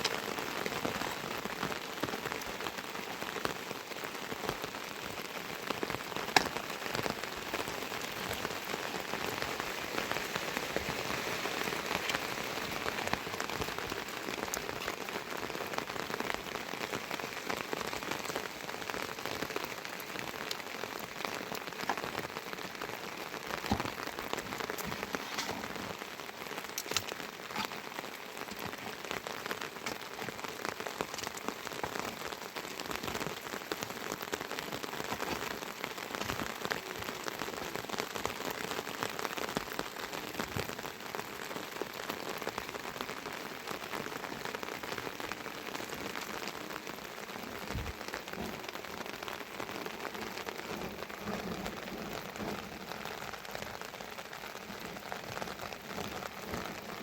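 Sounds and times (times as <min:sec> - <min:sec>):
sharp raindrop hits: 0:00.0 - 0:57.0
steady rain: 0:00.0 - 0:57.0.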